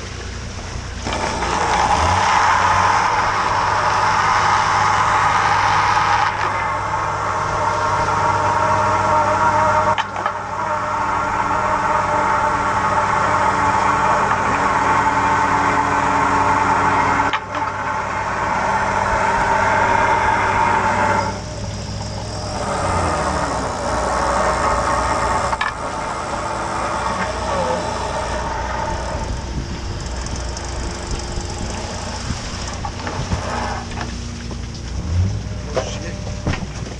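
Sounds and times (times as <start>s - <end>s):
boat engine drone: 0.0s - 36.9s
hydraulic hauler whine: 0.0s - 36.9s.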